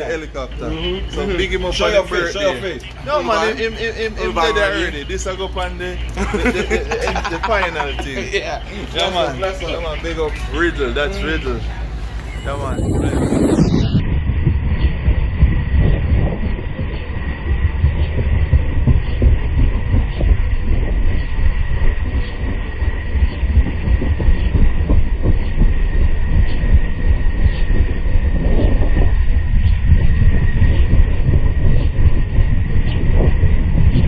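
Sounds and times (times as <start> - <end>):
helicopter whine and rotor rumble: 0.0 - 34.0.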